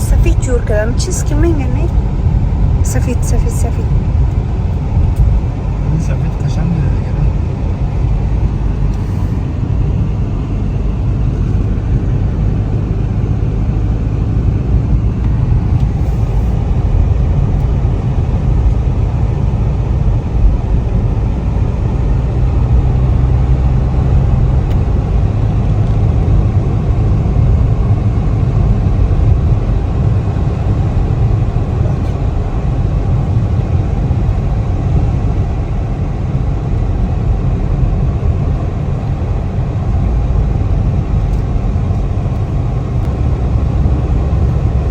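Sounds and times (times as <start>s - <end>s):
car road and engine rumble: 0.0s - 44.9s.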